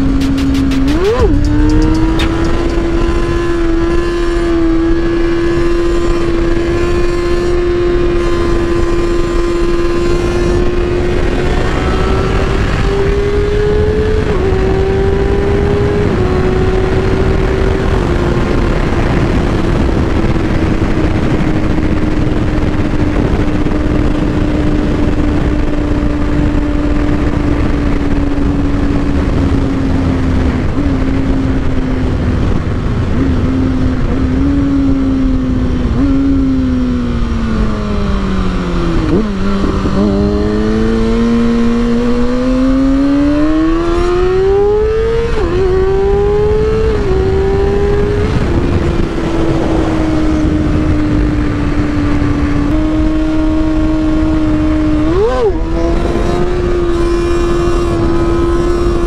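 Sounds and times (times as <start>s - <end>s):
motorcycle engine revving: 0.0s - 59.0s
wind rushing: 0.0s - 59.0s.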